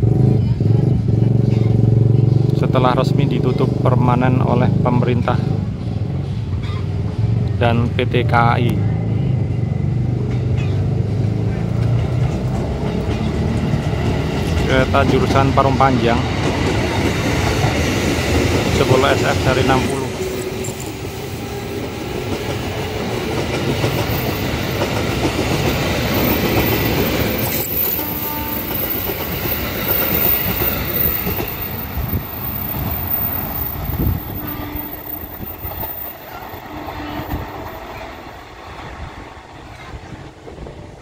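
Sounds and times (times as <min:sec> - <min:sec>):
electric train running past: 0:00.0 - 0:41.0.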